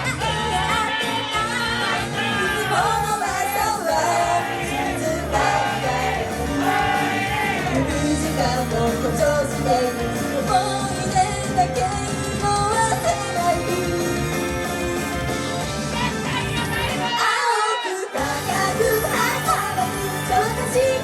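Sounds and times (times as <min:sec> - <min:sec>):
group singing live: 0:00.0 - 0:15.3, 0:16.0 - 0:21.0
pop-rock backing track: 0:00.0 - 0:17.5, 0:18.2 - 0:21.0.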